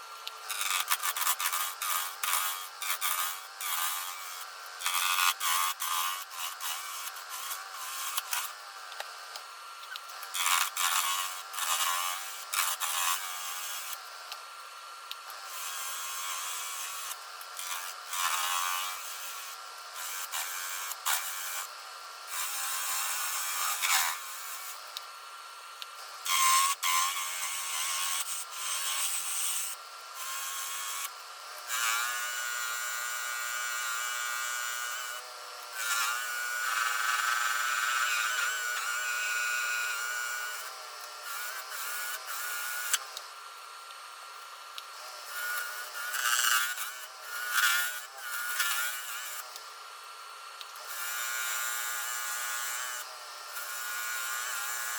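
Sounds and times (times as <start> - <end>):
power tool running: 0.0 - 54.9.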